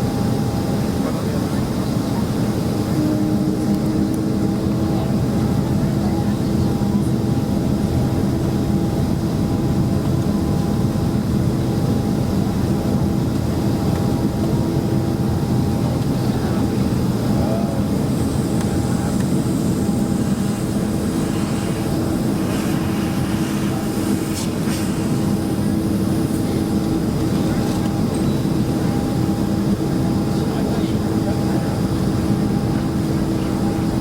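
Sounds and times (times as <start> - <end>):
airplane cabin engine hum: 0.0 - 34.0.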